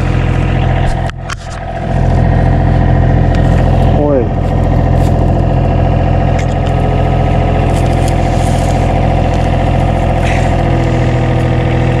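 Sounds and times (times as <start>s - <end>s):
construction machine engine idling: 0.0s - 12.0s.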